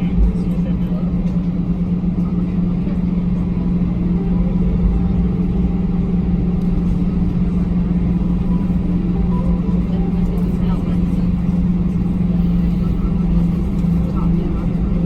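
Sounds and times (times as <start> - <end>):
airplane cabin drone: 0.0 - 15.0
low rumble: 0.0 - 15.0.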